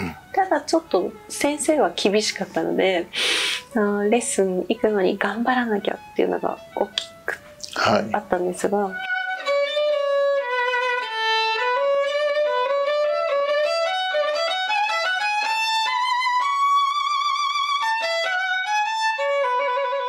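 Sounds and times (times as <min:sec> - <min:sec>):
solo violin melody: 0:00.0 - 0:20.0.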